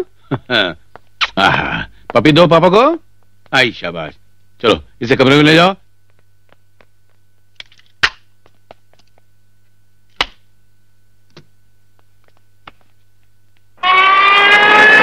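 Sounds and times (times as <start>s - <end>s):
low steady hum: 0.0s - 13.8s.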